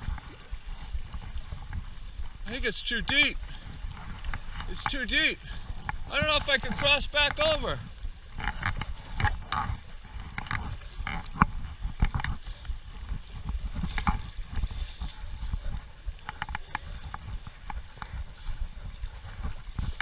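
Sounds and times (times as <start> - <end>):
water sloshing: 0.0 - 20.0.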